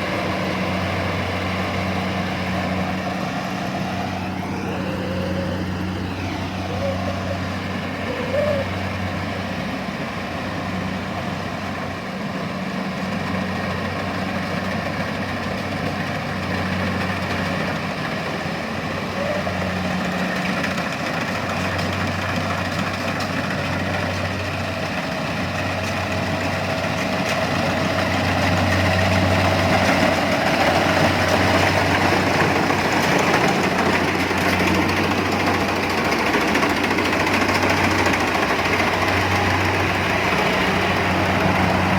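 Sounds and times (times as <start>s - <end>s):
engine humming: 0.0s - 41.9s.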